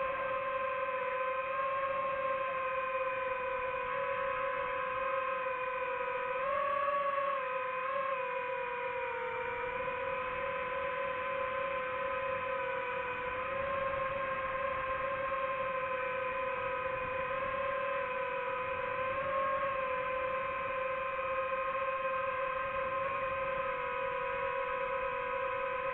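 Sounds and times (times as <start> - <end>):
drone motors whining hum: 0.0 - 25.9.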